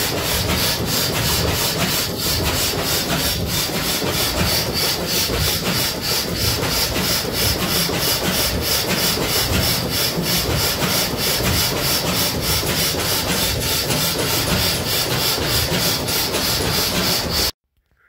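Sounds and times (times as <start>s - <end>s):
stationary gas engine running: 0.0s - 17.6s.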